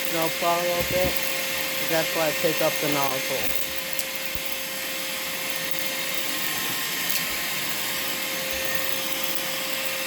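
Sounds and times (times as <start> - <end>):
shop vacuum running: 0.0 - 10.0.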